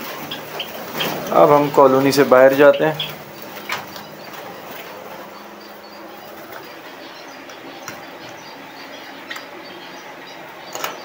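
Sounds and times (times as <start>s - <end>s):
finches chirping: 0.0s - 11.0s
steady hum: 0.0s - 11.0s.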